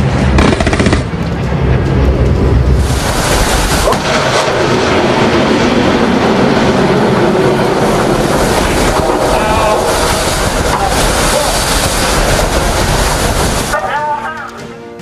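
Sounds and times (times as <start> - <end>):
rocket motor roaring: 0.0 - 13.8.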